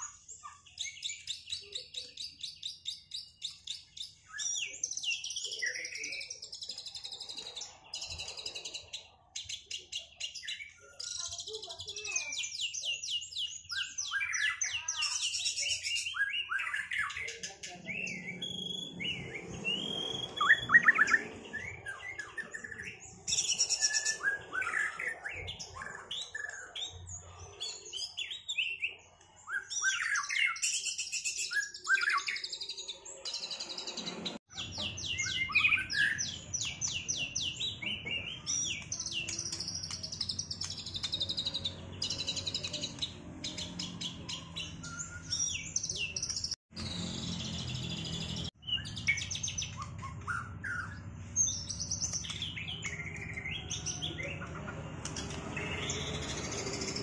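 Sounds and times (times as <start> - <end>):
birds singing chirps and whistles: 0.0 - 57.0.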